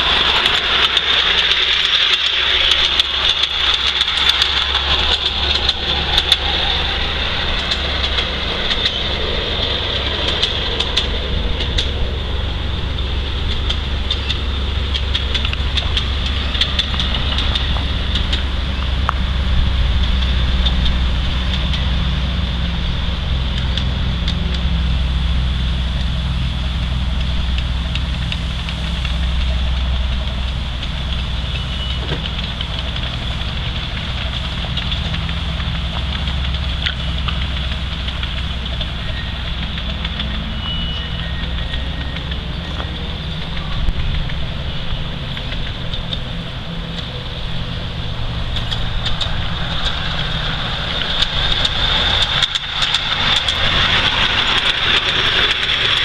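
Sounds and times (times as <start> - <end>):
model locomotive engine running: 0.0 - 56.0.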